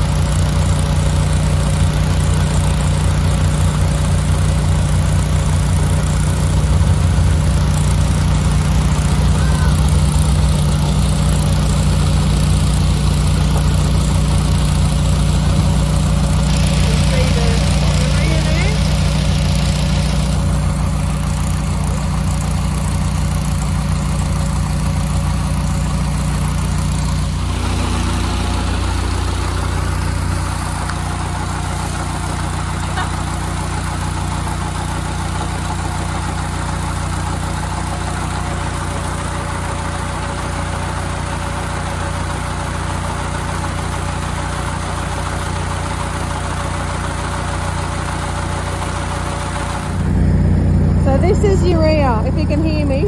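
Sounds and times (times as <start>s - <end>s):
farm machinery engine running: 0.0s - 53.0s.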